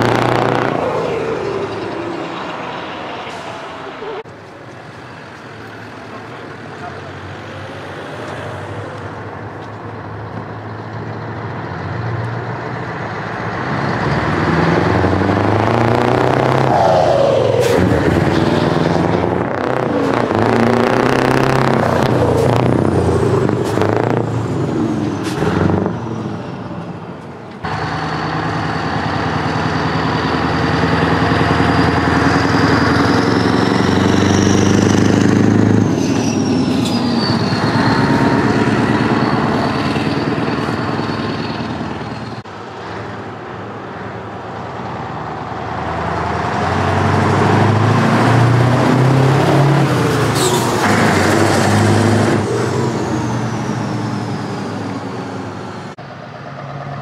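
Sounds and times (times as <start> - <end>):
trucks driving past loudly: 0.0 - 57.0.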